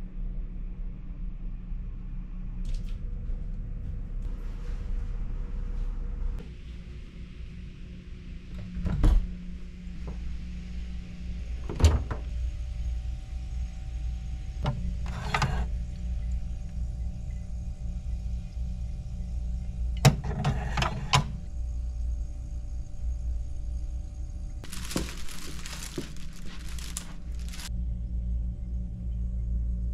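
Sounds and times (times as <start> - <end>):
refrigerator hum: 0.0 - 29.9.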